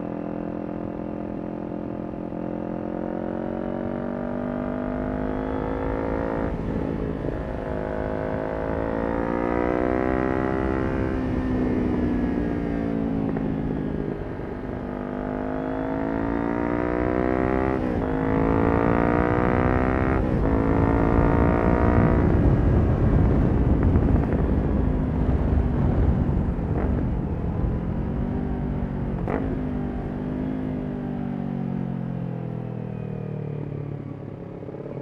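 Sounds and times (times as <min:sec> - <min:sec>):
motorcycle engine accelerating: 0:00.0 - 0:35.0
wind noise at speed: 0:00.0 - 0:35.0.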